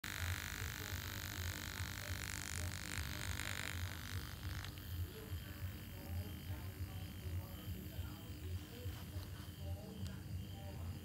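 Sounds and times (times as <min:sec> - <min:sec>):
small motor whining: 0:00.0 - 0:09.4.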